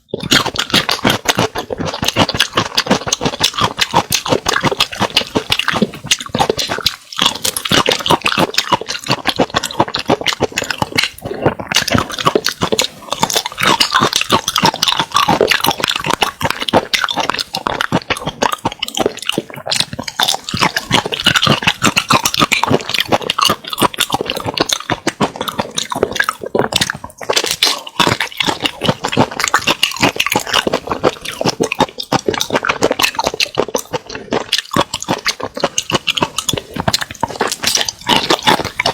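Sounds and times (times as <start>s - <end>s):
mouth chewing food: 0.0s - 38.9s
rapid clicks and crackles: 0.0s - 38.9s.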